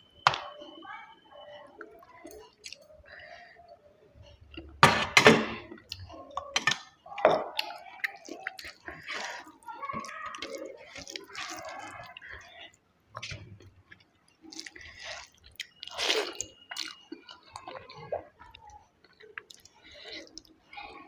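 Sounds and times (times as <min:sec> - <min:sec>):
chewing and mouth noises: 0:01.4 - 0:04.8, 0:05.8 - 0:21.0.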